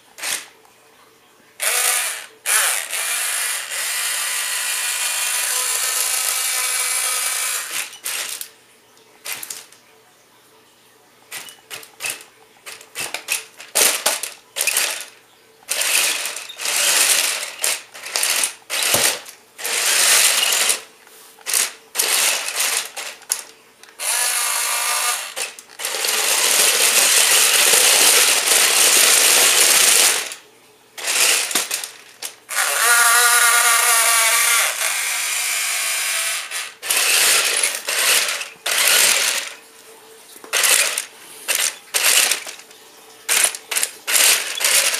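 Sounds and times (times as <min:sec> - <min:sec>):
toy tank electric motors running: 0:00.2 - 0:00.5, 0:01.6 - 0:08.5, 0:11.3 - 0:30.4, 0:31.0 - 0:39.6, 0:40.5 - 0:42.6, 0:43.3 - 0:44.9.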